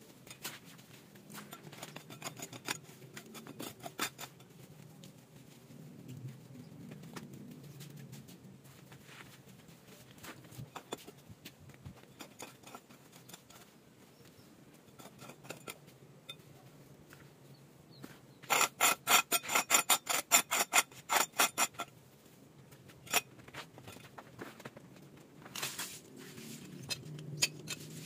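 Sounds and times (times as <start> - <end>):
metal scraping stony ground: 0.0 - 17.3, 18.0 - 22.0, 22.7 - 28.0
stones and soil rustling: 0.0 - 17.4, 18.0 - 28.0.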